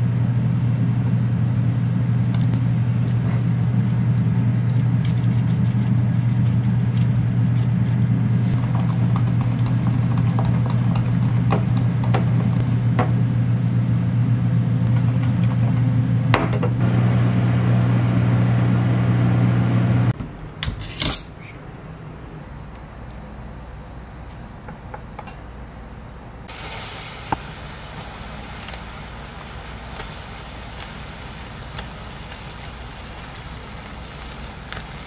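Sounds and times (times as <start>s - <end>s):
air fryer humming: 0.0s - 20.6s, 21.7s - 35.0s.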